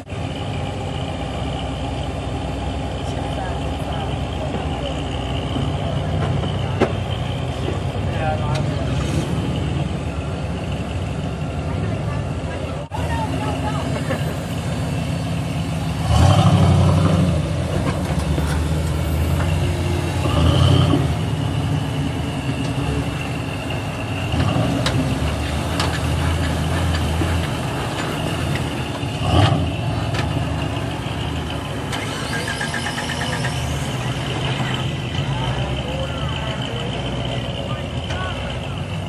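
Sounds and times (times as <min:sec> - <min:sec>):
engine running at low revs: 0:00.0 - 0:39.0.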